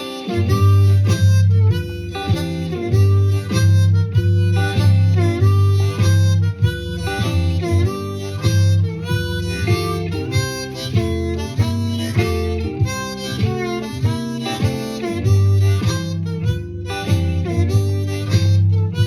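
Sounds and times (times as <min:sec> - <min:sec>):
blues harmonica licks: 0:00.0 - 0:19.0
shuffle backing track: 0:00.0 - 0:19.0.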